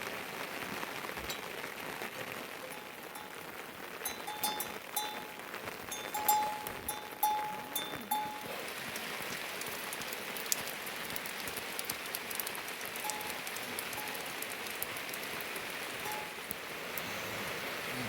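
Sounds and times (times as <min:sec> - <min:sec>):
raindrops ticking: 0:00.0 - 0:18.0
steady rain falling: 0:00.0 - 0:18.0.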